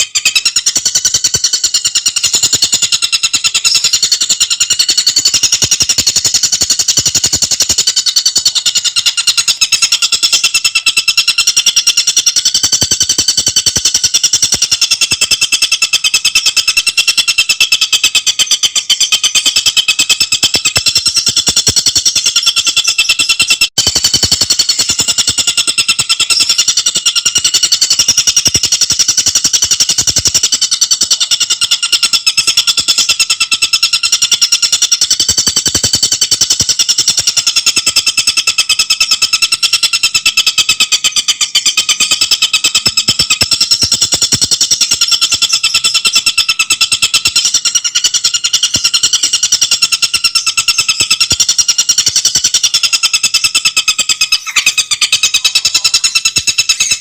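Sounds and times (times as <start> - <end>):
bird chattering trill: 0.0 - 57.0.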